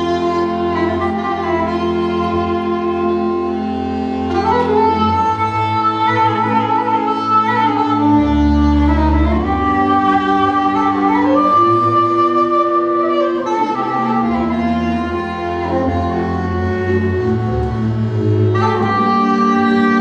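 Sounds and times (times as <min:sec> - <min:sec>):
slow folk dance melody: 0:00.0 - 0:20.0
sustained bass: 0:00.0 - 0:20.0.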